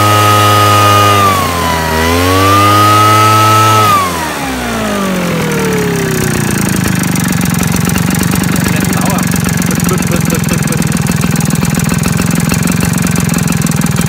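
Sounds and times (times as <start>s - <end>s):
small petrol engine running: 0.0s - 14.0s.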